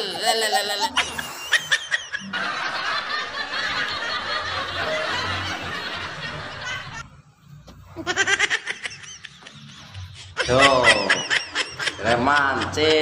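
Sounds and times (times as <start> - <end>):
crowd laughing: 0.0 - 13.0.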